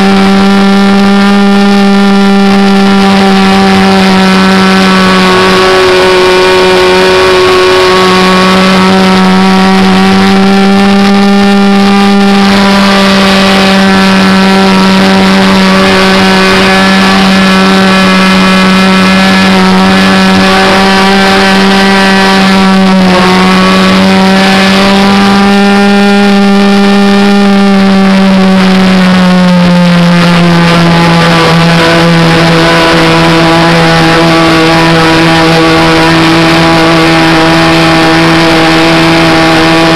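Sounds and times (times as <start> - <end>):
model airplane engine drone: 0.0 - 39.9.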